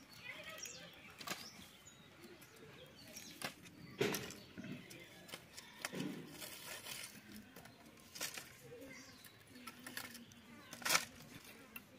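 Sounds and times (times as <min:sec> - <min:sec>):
birds calling: 0:00.0 - 0:11.9.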